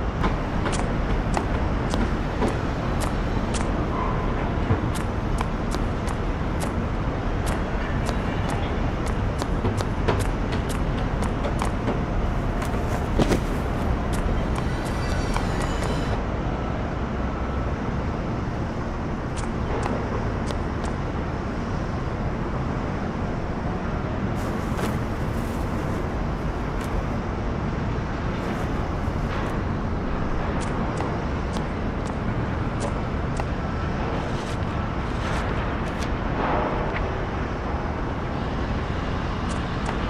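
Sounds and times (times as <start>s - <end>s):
low rumbling outdoor ambience: 0.0s - 40.0s.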